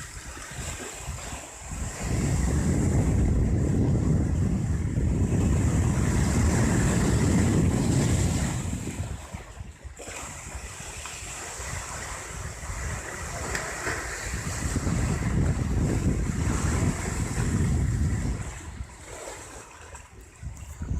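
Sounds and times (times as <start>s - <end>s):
rushing sea water: 0.0s - 20.9s
wind buffeting microphone: 0.0s - 20.9s.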